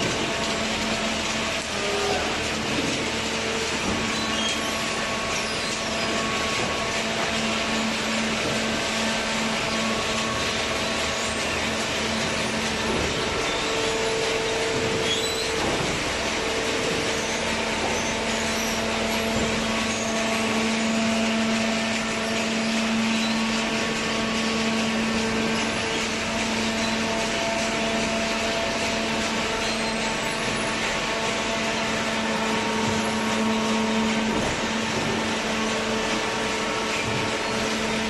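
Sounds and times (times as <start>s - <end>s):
baler machine hum with whine: 0.0s - 38.0s.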